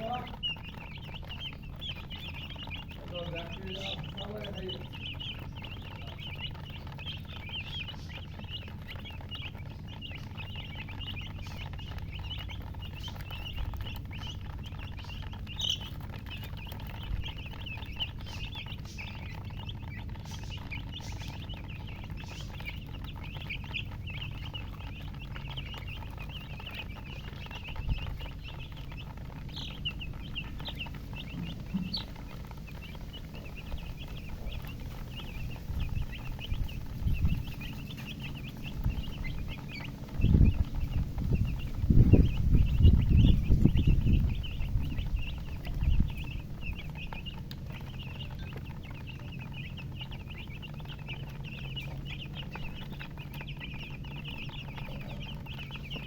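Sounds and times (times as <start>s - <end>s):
baby chicks peeping: 0.0s - 56.0s
low steady hum: 0.0s - 56.0s.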